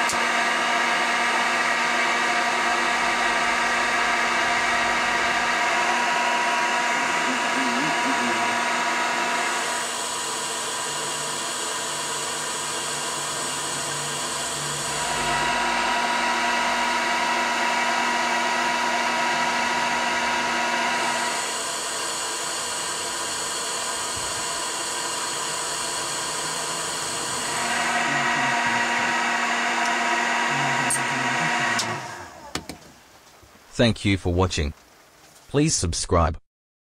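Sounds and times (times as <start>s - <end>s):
hair dryer fan running: 0.0s - 33.0s.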